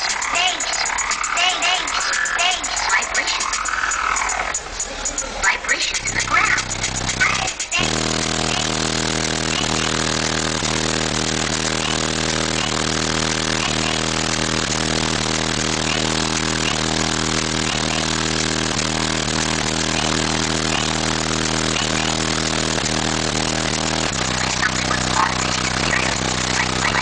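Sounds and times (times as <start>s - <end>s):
subwoofer bass drone: 0.0s - 27.0s.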